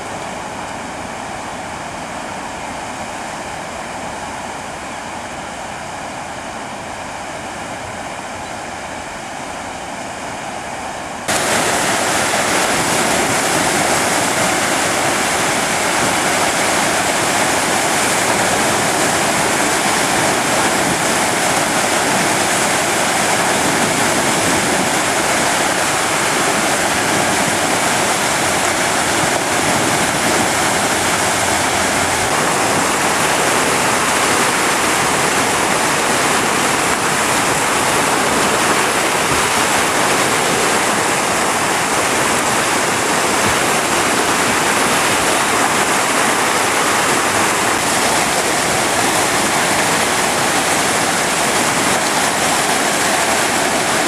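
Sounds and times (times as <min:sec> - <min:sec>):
water rushing over a dam: 0:10.0 - 0:54.0.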